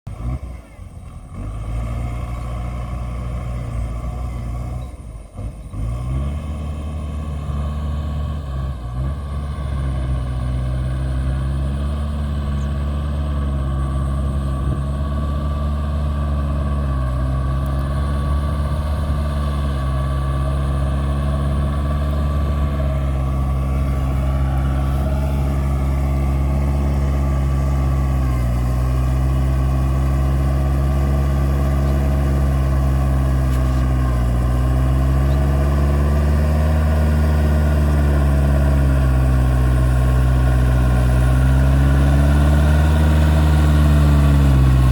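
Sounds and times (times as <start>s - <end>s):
tractor diesel engine running: 0.1s - 44.9s.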